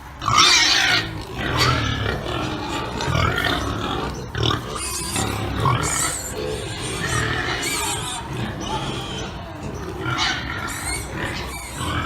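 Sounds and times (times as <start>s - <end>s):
pigs grunting and squealing: 0.0s - 12.0s.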